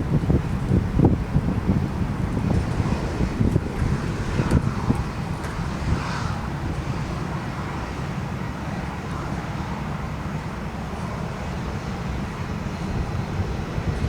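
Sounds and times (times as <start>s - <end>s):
aircraft noise: 0.0s - 14.0s
outdoor traffic rumble: 0.0s - 14.0s
wind buffeting microphone: 0.0s - 14.0s.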